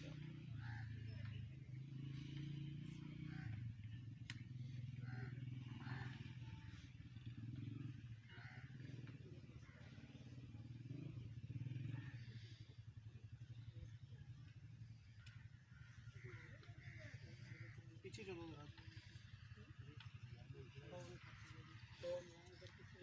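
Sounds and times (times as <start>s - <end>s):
low fluttering rumbling drone: 0.0s - 23.0s.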